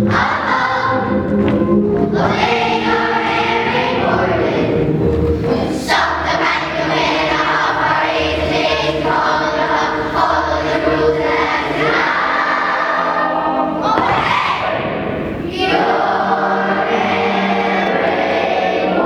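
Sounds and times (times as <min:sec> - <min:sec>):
children's choir singing: 0:00.0 - 0:19.0
instrumental accompaniment: 0:00.0 - 0:19.0.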